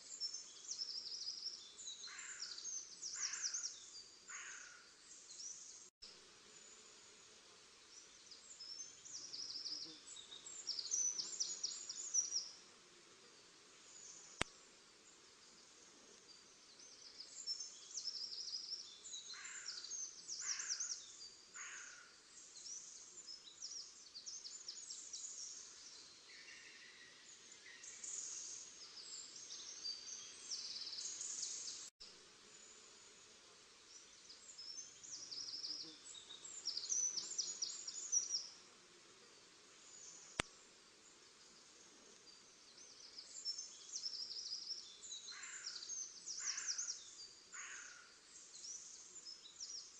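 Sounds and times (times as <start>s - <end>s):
small songbirds chirping: 0.0s - 49.9s.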